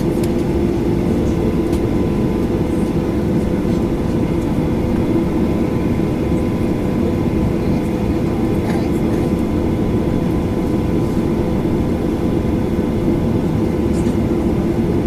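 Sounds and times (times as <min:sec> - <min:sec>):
constant hum: 0:00.0 - 0:15.0
low cabin rumble: 0:00.0 - 0:15.0.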